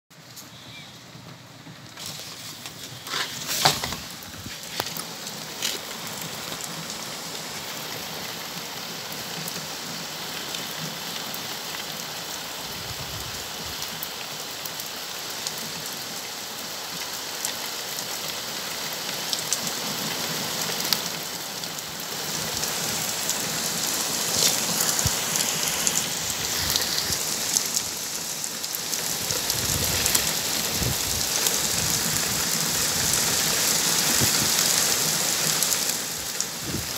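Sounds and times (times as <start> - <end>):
heavy rain on paving and gravel: 0.1 - 36.9.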